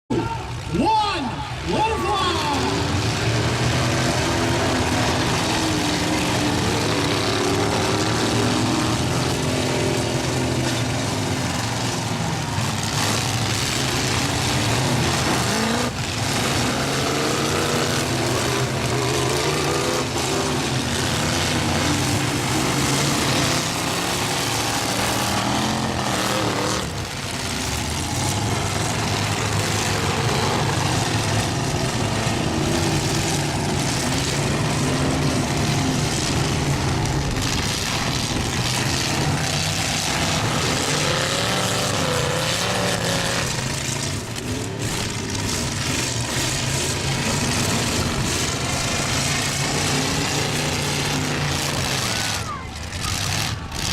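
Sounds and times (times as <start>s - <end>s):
truck engines revving: 0.0s - 53.9s.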